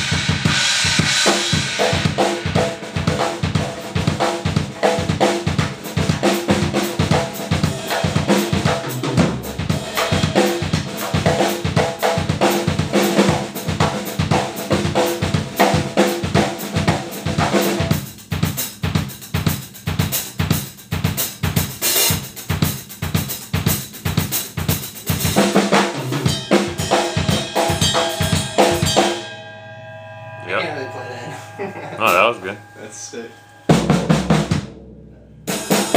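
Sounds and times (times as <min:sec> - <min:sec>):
cymbals: 0:00.0 - 0:35.9.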